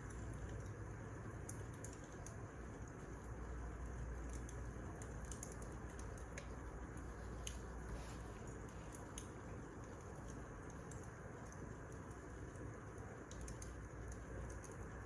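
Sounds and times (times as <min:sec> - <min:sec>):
low rumble and hiss: 0:00.0 - 0:15.0
soft sharp clicks and ticks: 0:01.4 - 0:07.7, 0:08.5 - 0:15.0.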